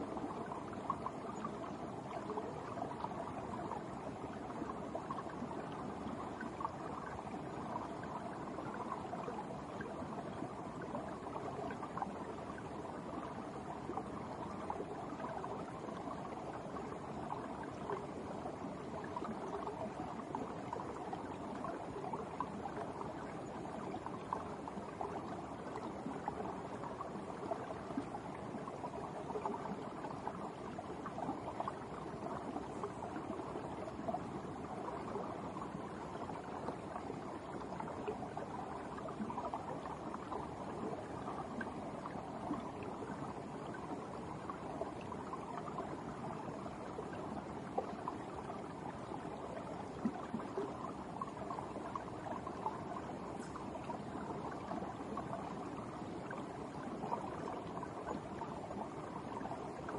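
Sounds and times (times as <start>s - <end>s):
water flowing under ice: 0.0s - 59.9s.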